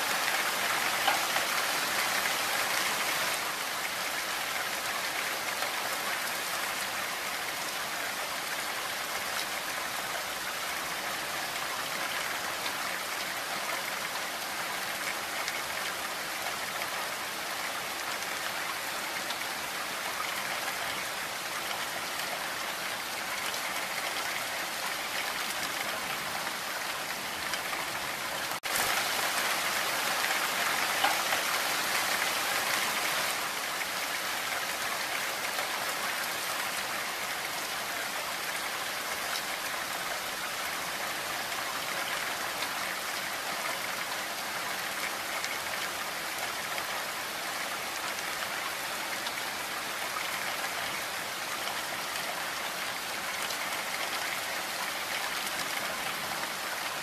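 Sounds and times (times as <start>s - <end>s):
rain falling on trees: 0.0s - 57.0s.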